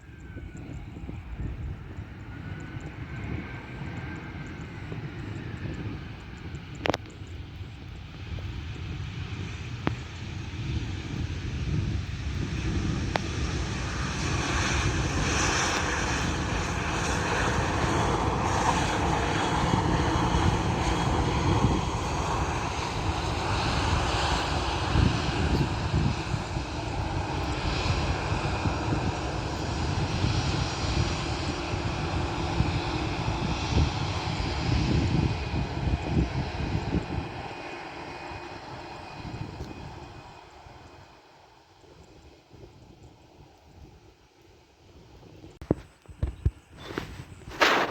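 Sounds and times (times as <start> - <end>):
high engine whine: 0.0 - 41.6
jet airliner engines passing: 0.0 - 47.9.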